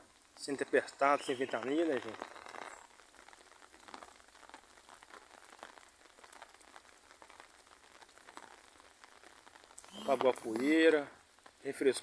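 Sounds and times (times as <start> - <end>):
light rain pattering: 0.0 - 12.0.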